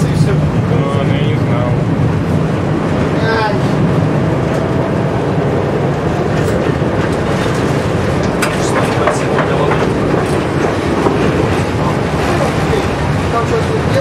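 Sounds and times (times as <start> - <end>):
tram wheels rumbling on rails: 0.0 - 14.0
wheels clicking and clacking on track: 0.0 - 14.0.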